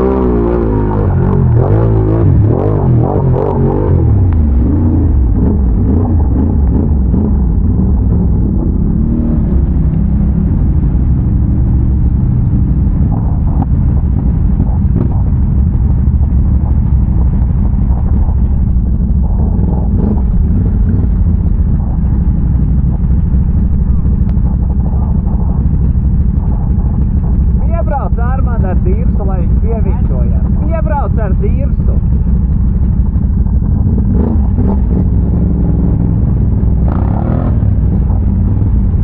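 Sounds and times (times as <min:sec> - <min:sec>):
atv engine rumbling: 0:00.0 - 0:39.0.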